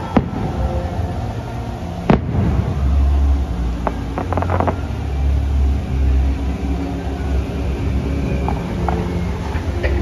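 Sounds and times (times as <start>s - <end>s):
fireworks bursts rumbling: 0.0s - 10.0s
fireworks crackling: 0.0s - 10.0s.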